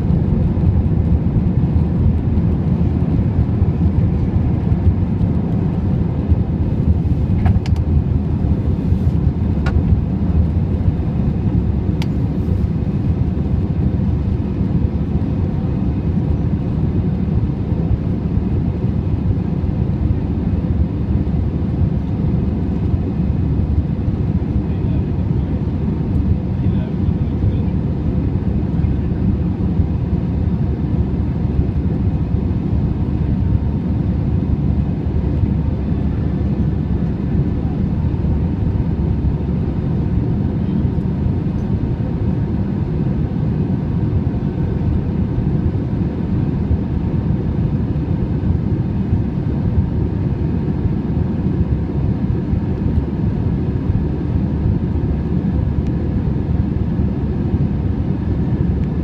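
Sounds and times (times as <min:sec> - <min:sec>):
jet engine and airflow noise: 0:00.0 - 0:59.0.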